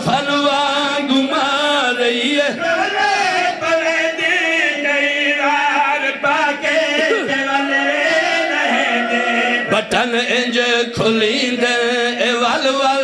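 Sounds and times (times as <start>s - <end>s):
man chanting a lament: 0.0s - 13.0s.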